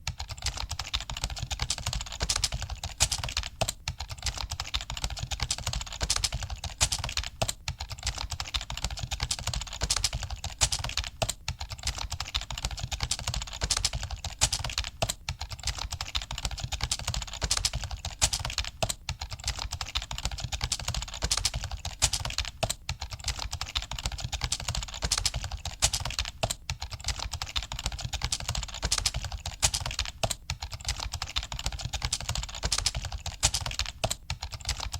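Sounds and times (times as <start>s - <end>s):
fast typing on keyboard: 0.0s - 34.9s.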